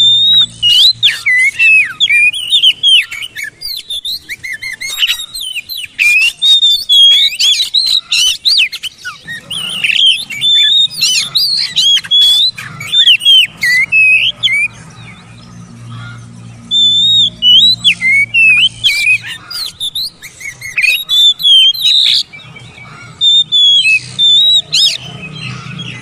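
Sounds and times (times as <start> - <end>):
bird singing whistled phrases: 0.0 - 15.3, 16.6 - 26.0.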